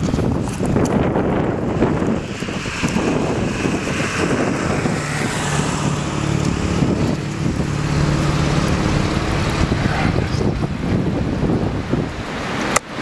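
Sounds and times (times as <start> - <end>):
wind buffeting microphone: 0.0 - 13.0
truck engine driving past: 1.1 - 12.4.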